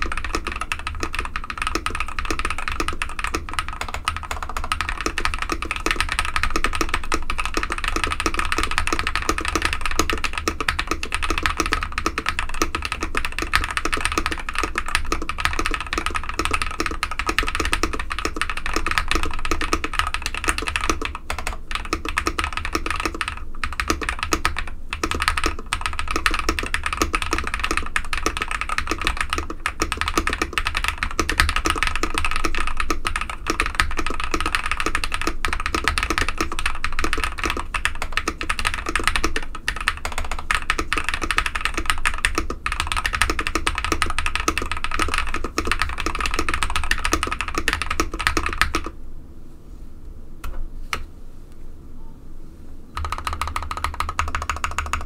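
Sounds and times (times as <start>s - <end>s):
mechanical keyboard typing: 0.0s - 49.0s, 53.0s - 55.0s.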